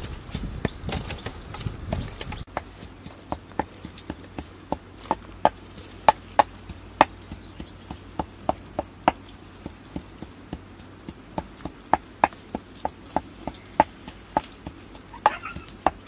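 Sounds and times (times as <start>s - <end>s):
wooden pestle pounding in mortar: 0.0s - 16.0s.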